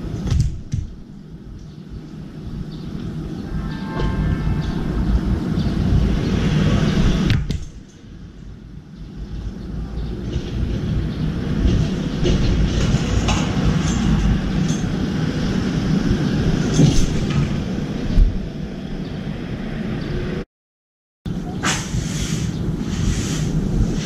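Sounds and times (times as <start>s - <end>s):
low rumbling background noise: 0.0s - 20.4s, 21.3s - 24.0s.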